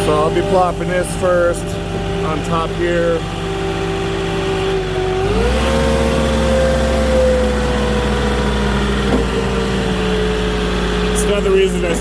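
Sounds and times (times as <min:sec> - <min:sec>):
forklift engine revving: 0:00.0 - 0:12.0.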